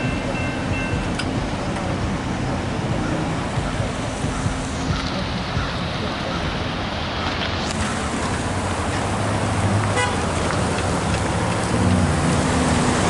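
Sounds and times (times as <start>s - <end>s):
cars driving over rail crossing: 0.0s - 13.0s
engine hum: 0.0s - 13.0s
tyre noise on wet road: 0.0s - 13.0s.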